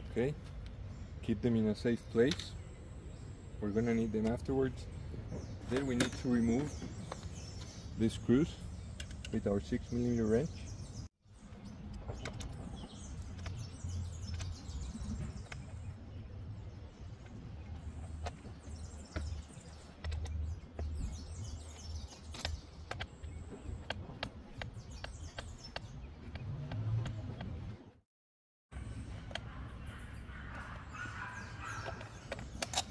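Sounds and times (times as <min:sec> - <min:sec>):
birds chirping: 0:00.0 - 0:28.0, 0:28.7 - 0:32.9.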